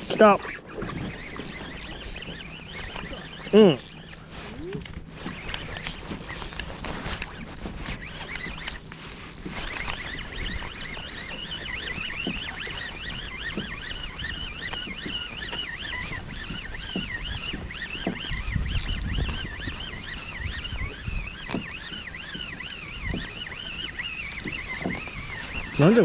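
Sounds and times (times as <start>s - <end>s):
fishing reel whine: 0.0s - 26.0s
water noise: 0.0s - 26.0s
wind: 0.0s - 26.0s.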